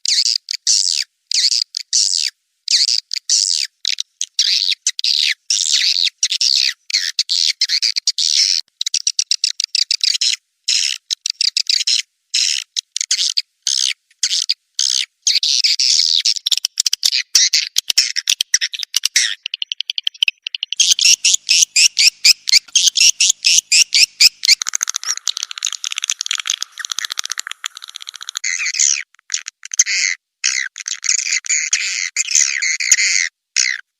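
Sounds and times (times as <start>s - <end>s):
recorded swiftlet calls: 0.0s - 33.8s.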